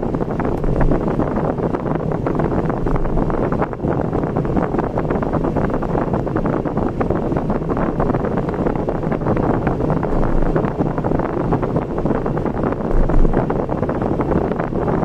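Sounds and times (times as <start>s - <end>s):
car road noise: 0.0s - 15.0s
wind rumbling on microphone: 0.0s - 15.0s.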